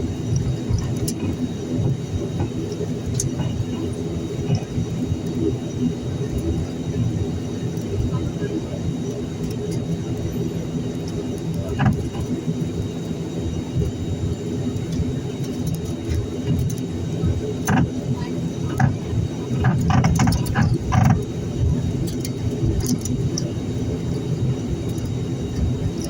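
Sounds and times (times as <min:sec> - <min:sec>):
turboprop engines droning: 0:00.0 - 0:26.0.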